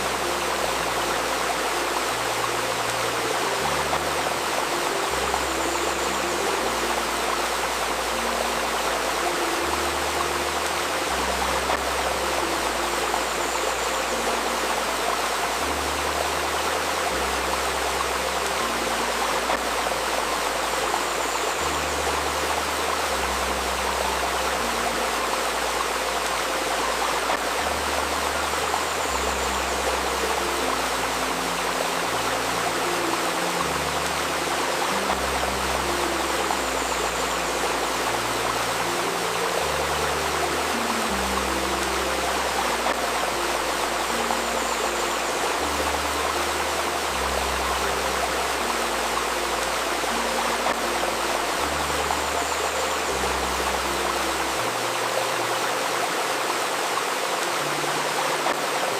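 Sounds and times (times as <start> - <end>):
low synth tones: 0.0 - 58.9
stream babbling: 0.0 - 58.9.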